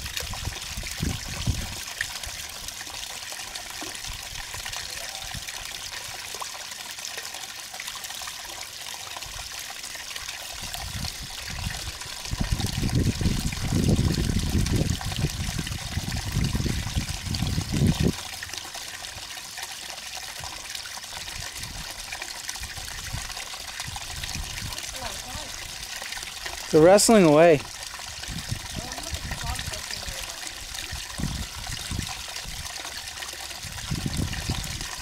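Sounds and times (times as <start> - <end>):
trickle of running water: 0.0 - 35.0.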